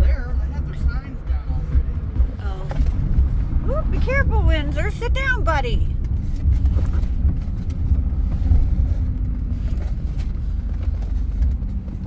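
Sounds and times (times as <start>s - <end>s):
car tyre and engine rumble: 0.0s - 12.0s
wind through car window: 0.0s - 12.0s.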